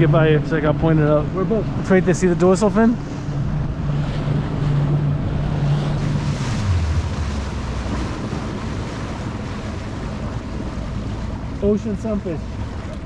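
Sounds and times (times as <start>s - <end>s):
boat motor humming: 0.0s - 13.0s
water washing around hull: 0.0s - 13.0s
wind buffeting microphone: 0.0s - 13.0s.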